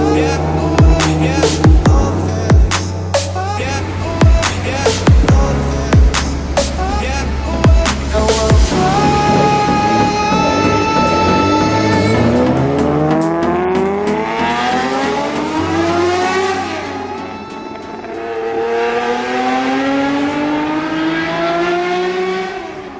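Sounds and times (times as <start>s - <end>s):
car engine accelerating hard: 0.0s - 22.9s.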